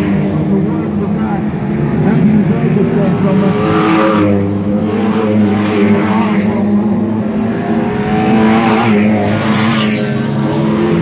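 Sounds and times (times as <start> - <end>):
race cars passing by: 0.0 - 11.0.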